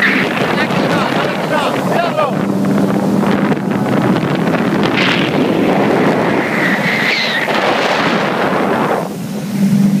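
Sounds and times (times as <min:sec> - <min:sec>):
boat engine: 0:00.0 - 0:10.0
water noise: 0:00.0 - 0:10.0
wind buffeting microphone: 0:00.0 - 0:10.0.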